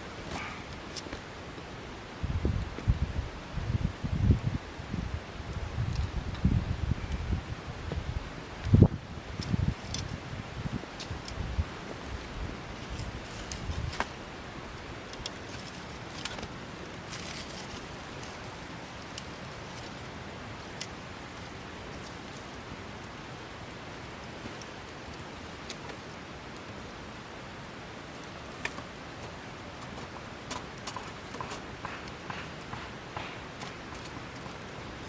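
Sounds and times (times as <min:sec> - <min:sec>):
wood fire crackling and popping: 0:00.1 - 0:35.0.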